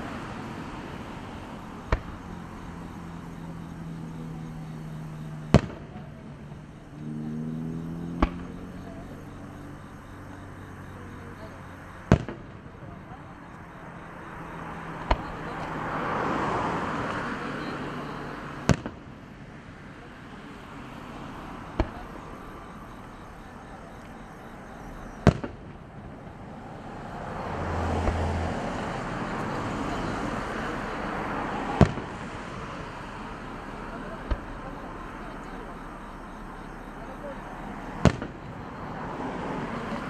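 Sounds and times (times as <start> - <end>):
noisy firework wash: 0.0 - 9.2, 10.0 - 40.0.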